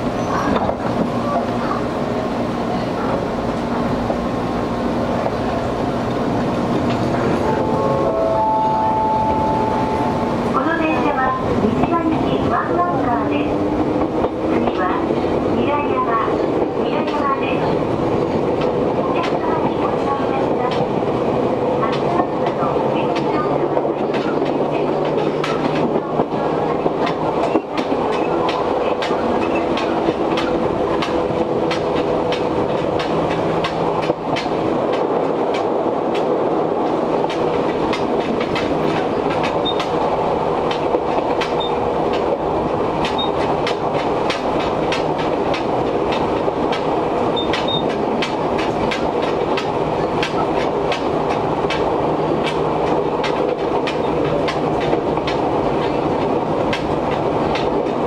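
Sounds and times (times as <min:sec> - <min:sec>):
rail joint clicks and clanks: 0:00.0 - 0:58.0
train wheels rumbling on rail: 0:00.0 - 0:58.0.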